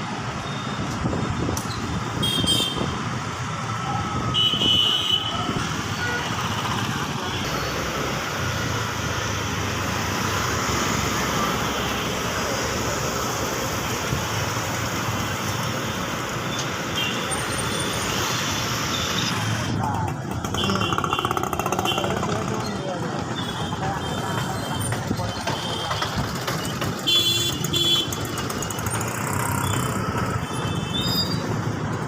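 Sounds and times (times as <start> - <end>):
city road traffic noise: 0.0 - 32.0.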